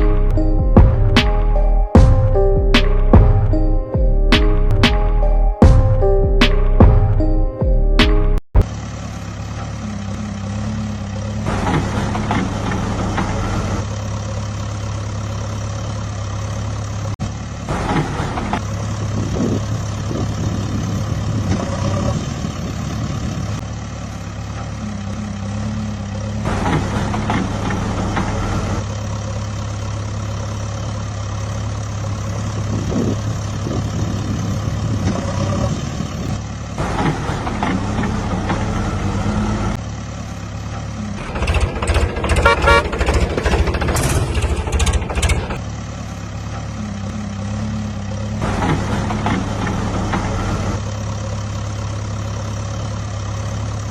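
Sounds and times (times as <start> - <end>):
heavy vehicle engine idling: 0.0 - 7.8, 8.6 - 53.9.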